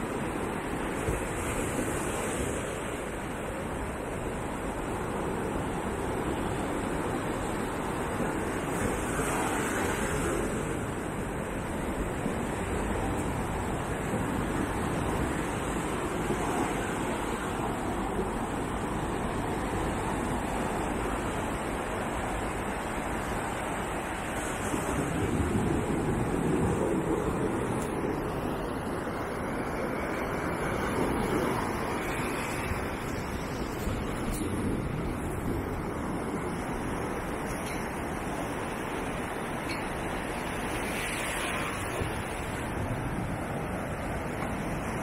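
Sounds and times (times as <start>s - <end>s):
ocean surf breaking on beach: 0.0s - 45.0s.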